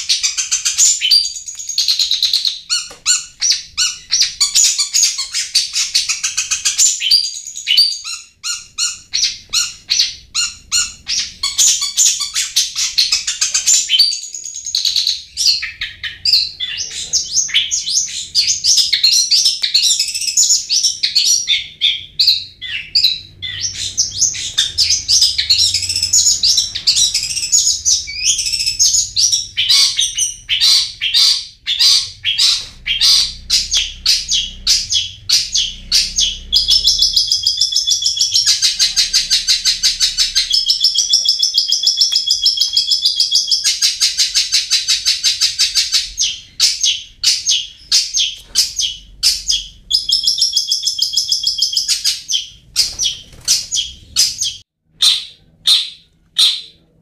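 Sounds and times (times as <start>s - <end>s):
shrike chattering and trilling: 0.0s - 56.8s.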